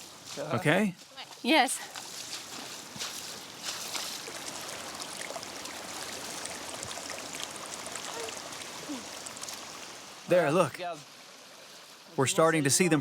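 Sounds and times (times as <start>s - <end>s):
rushing flowing water: 1.4s - 13.0s.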